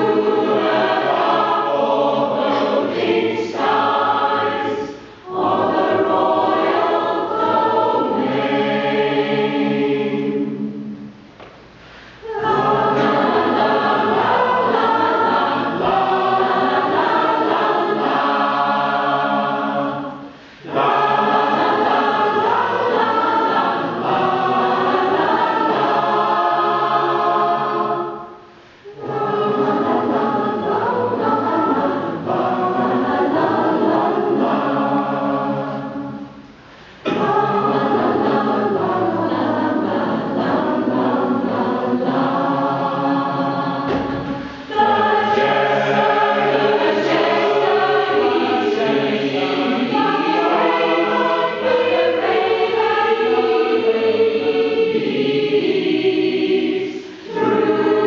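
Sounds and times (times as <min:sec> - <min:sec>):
mixed choir singing: 0:00.0 - 0:11.2, 0:12.2 - 0:58.0.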